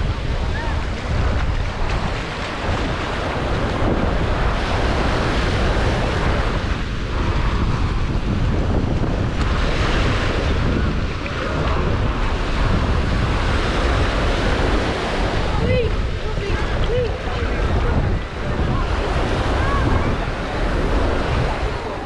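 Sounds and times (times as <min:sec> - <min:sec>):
surf washing on beach: 0:00.0 - 0:22.0
wind buffeting microphone: 0:00.0 - 0:22.0.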